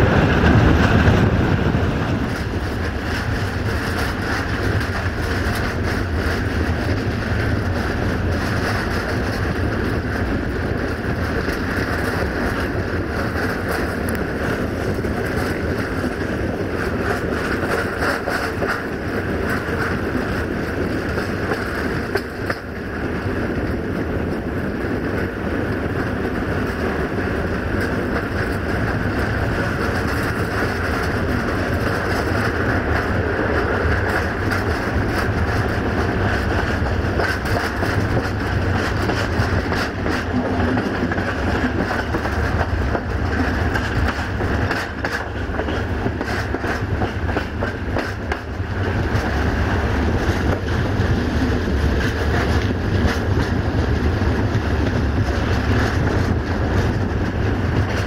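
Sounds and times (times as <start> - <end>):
train engine and wheels rumbling: 0.0 - 58.0.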